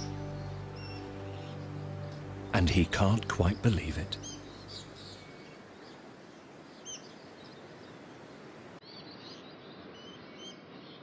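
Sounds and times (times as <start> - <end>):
rainforest hiss: 0.0 - 8.8.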